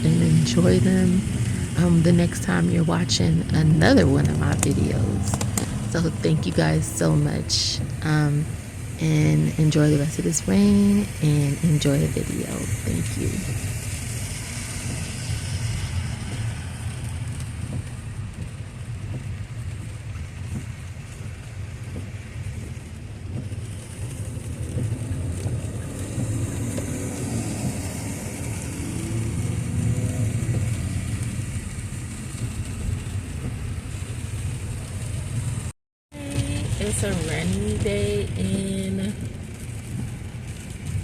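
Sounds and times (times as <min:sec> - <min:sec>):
rain hissing on wet road: 0:00.0 - 0:41.0
road rumble inside car: 0:00.0 - 0:41.0.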